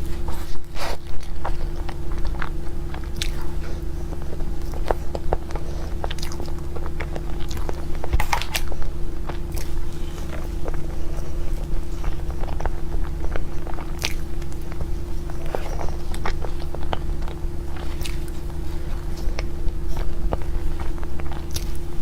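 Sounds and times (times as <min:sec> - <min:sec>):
low electrical hum: 0:00.0 - 0:22.0
person chewing cake: 0:00.0 - 0:22.0.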